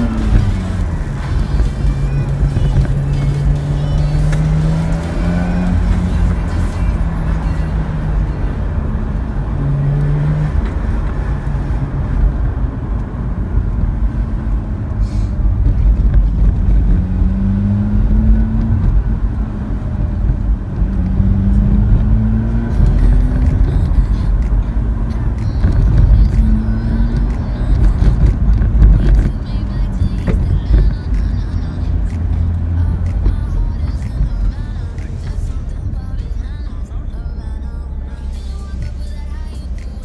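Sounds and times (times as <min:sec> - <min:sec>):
rotary car engine accelerating: 0:00.0 - 0:40.0.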